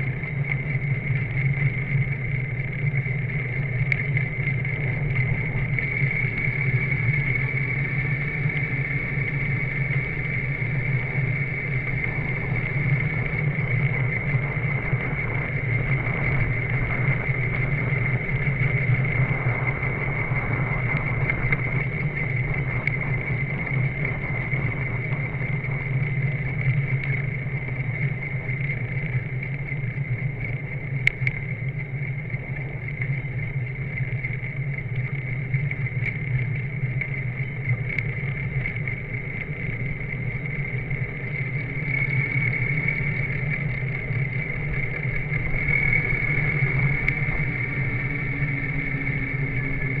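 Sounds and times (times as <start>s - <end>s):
motorcycle engine running: 0.0s - 50.0s
steady high whine: 0.0s - 50.0s.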